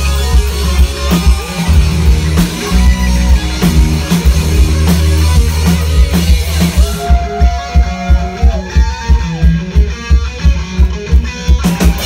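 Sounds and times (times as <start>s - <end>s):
heavy rock band playing: 0.0s - 12.0s
drum hits: 1.1s - 11.0s.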